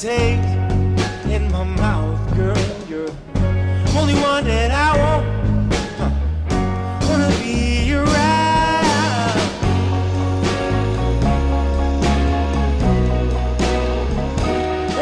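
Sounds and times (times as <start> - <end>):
love song with singing voice: 0.0 - 15.0
steady bass beat: 0.0 - 15.0.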